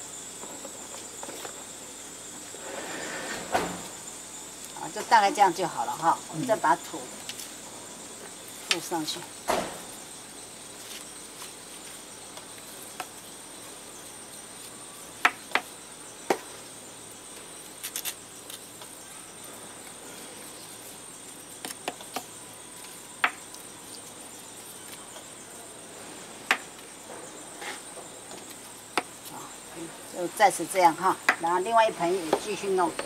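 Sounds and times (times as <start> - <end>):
insect trill: 0.0 - 33.0.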